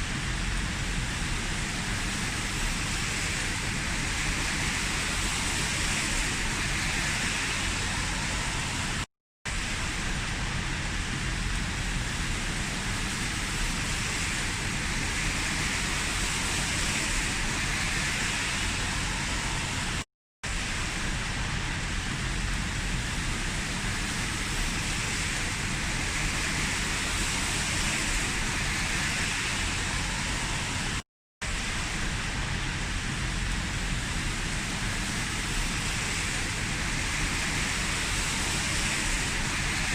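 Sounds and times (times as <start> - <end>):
heavy rain falling: 0.2 - 39.9.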